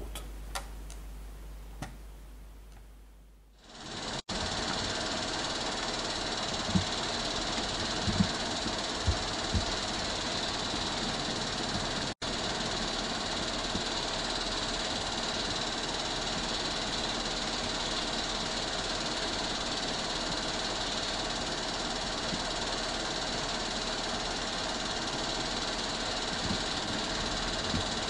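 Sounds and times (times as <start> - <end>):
steady mechanical running noise: 0.0 - 28.0.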